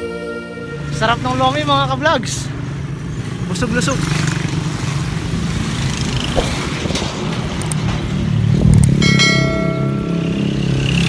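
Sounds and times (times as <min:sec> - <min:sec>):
motorcycle engines passing: 0:00.6 - 0:11.0.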